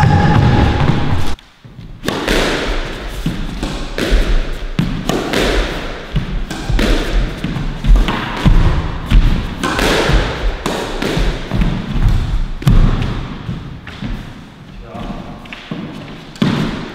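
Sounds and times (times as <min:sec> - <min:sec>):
racket hitting squash ball: 0:00.0 - 0:14.5, 0:15.1 - 0:16.9.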